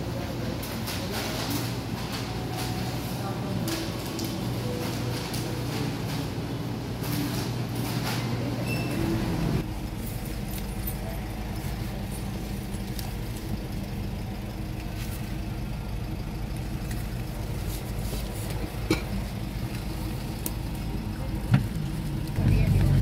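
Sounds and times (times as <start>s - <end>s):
bus engine hum: 0.0s - 23.0s
busy background noise: 0.0s - 23.0s.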